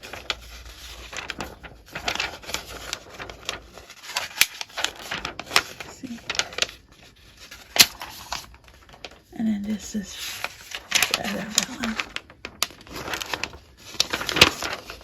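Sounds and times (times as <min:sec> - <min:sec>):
stiff paper crackling: 0:00.0 - 0:15.0.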